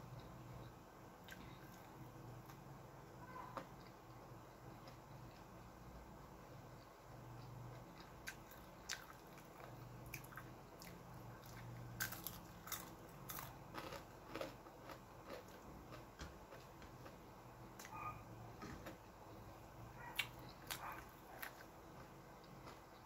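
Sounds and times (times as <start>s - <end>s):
person chewing crispy food: 0.1s - 2.6s, 3.5s - 5.6s, 6.7s - 18.2s, 18.8s - 23.0s.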